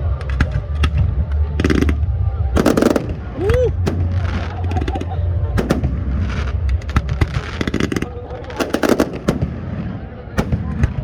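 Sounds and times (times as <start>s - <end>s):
fireworks bangs: 0.0s - 11.0s
fireworks crackling: 0.0s - 11.0s
low rumble: 0.0s - 11.0s.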